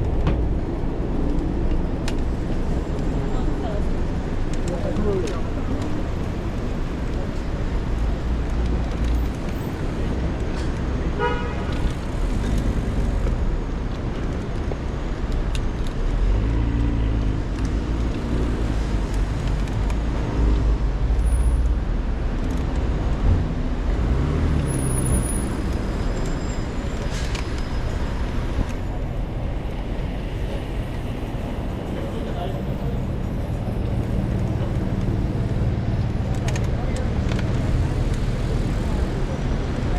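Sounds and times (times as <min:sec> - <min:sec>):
motor vehicles passing: 0:00.0 - 0:15.2, 0:16.0 - 0:39.9.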